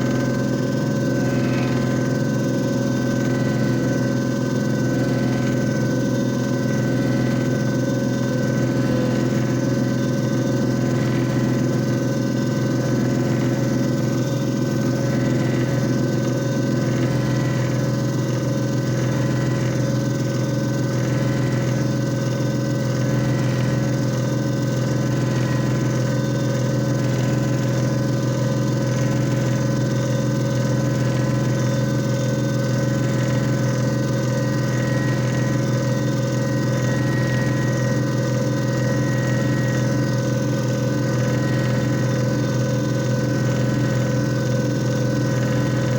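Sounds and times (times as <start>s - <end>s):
machine motor hum: 0.0s - 45.9s.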